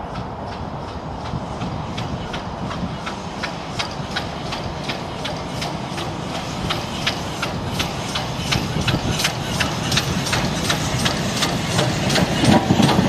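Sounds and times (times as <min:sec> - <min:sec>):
steam locomotive chugging: 0:00.0 - 0:13.0.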